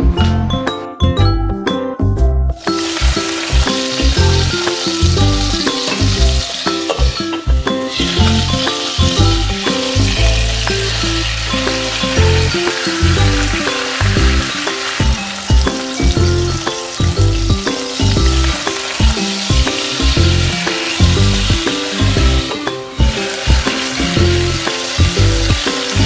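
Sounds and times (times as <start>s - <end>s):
background music with bass: 0.0s - 26.0s
meat sizzling in a pan: 2.6s - 26.0s.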